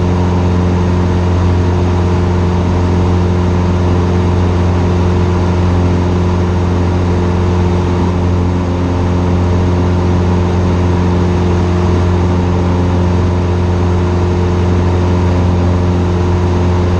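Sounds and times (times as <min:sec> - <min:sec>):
light aircraft engine and propeller: 0:00.0 - 0:16.9.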